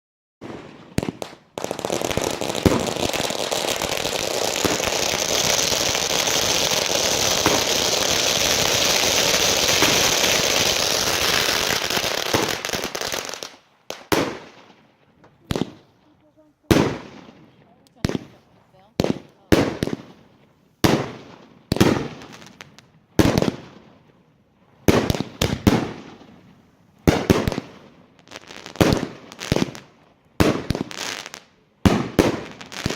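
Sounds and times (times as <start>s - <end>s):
firework bangs: 0.4s - 23.9s, 24.8s - 32.9s
fireworks crackling: 0.4s - 32.9s.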